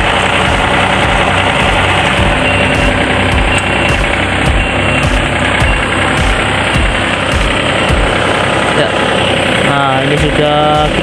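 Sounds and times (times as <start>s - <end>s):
mower engine running: 0.0s - 11.0s.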